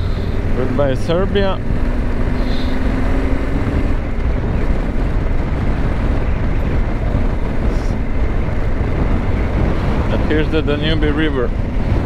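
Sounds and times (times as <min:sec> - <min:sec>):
motorcycle engine drone: 0:00.0 - 0:12.0
wind rushing on microphone: 0:00.0 - 0:12.0.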